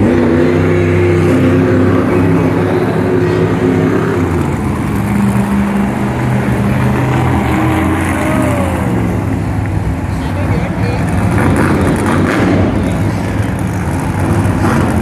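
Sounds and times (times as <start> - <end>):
loud truck engine revving: 0.0 - 15.0.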